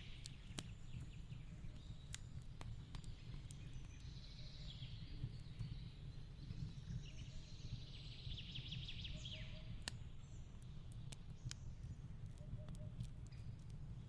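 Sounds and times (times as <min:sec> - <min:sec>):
log fire rumbling and crackling: 0:00.0 - 0:14.0.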